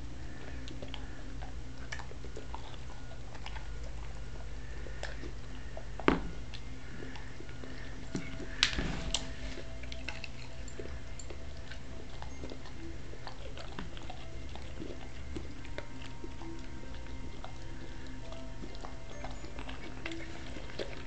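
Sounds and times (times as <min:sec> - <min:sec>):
dog crunching a biscuit: 0:00.3 - 0:21.0.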